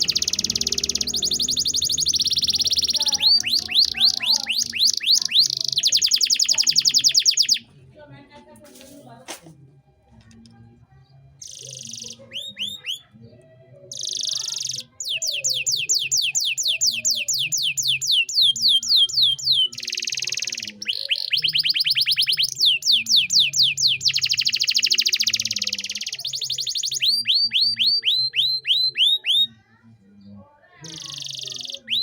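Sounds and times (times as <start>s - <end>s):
canary singing: 0.0s - 7.8s, 9.8s - 32.0s.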